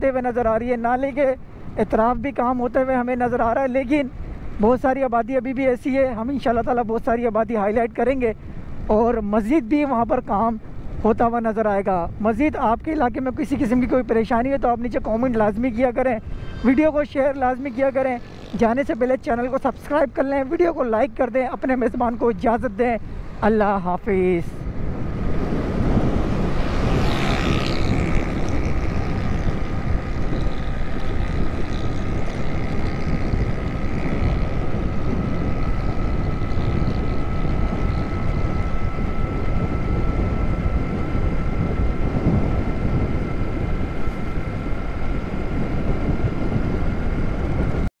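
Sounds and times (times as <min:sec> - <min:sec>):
faint steady whine: 0:00.0 - 0:47.9
road noise at speed: 0:00.0 - 0:47.9
wind rushing over microphone: 0:00.0 - 0:47.9.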